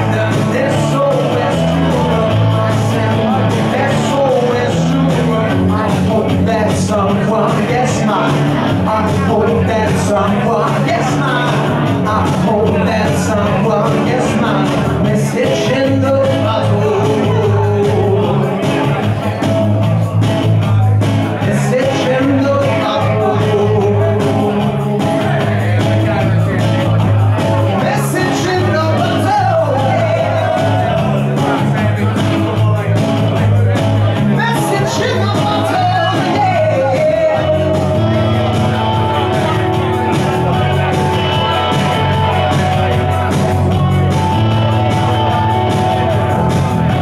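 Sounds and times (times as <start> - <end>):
bass guitar: 0.0 - 47.0
electric guitar: 0.0 - 47.0
man singing: 0.0 - 47.0.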